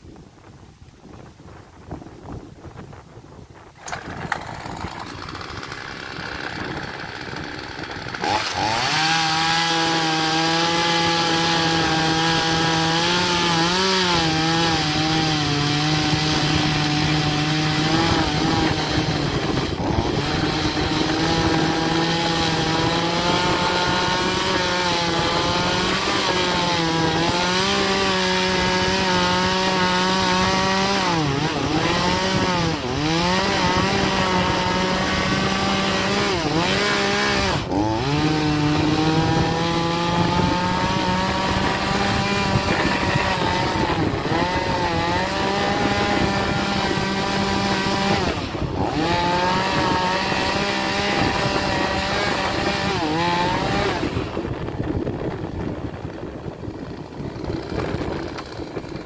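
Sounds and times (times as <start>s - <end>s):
chainsaw cutting wood: 3.6s - 59.0s.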